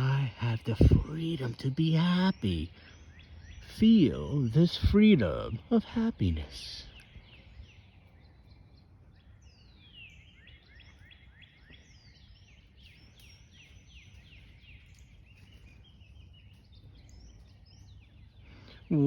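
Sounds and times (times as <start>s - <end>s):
songbird singing faintly: 0.0s - 19.0s
steady low rumble: 0.0s - 19.0s.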